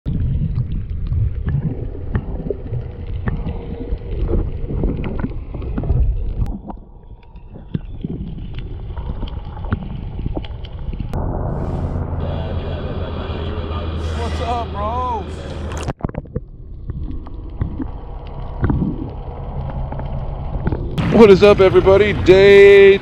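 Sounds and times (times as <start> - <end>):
muffled underwater rushing water: 0.1 - 23.0.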